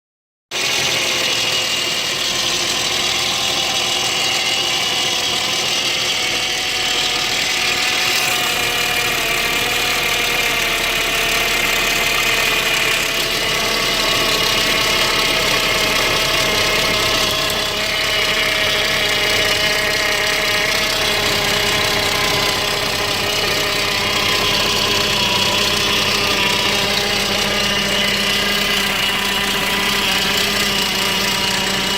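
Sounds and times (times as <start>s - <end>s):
car engine idling roughly: 0.5s - 31.9s.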